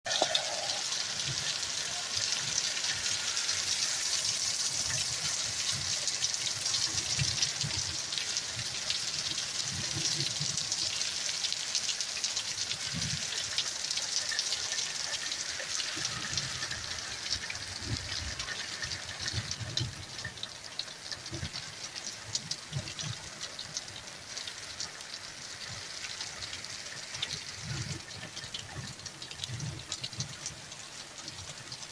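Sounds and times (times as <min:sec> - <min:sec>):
heavy rain falling: 0:00.1 - 0:31.9.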